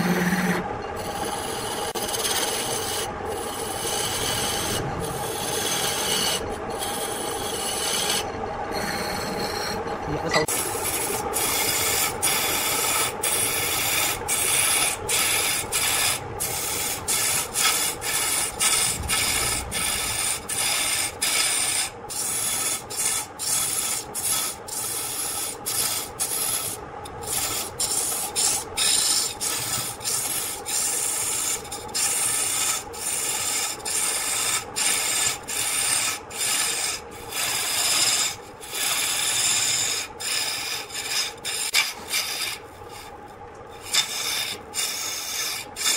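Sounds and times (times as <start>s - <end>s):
lathe humming: 0.0s - 45.9s
lathe tool scraping wood: 0.0s - 45.9s.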